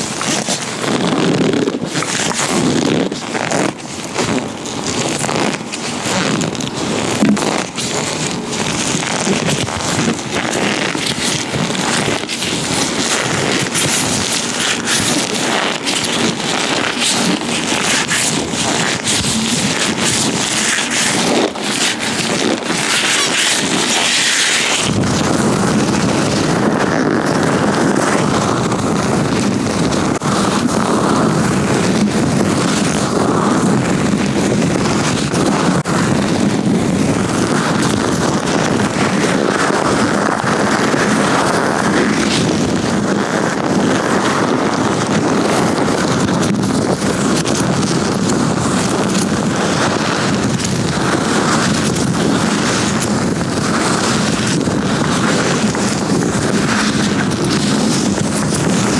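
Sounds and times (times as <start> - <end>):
latex gloves crackling and snapping: 0.0 - 58.9
microphone rubbing rumble: 0.0 - 58.9.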